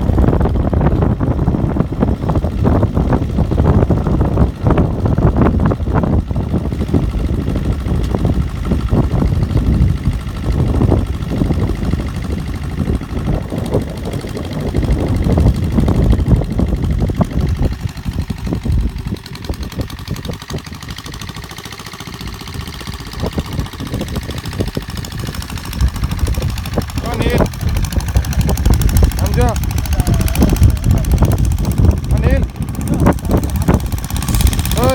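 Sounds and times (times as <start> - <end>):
tractor engine chugging: 0.0 - 34.9.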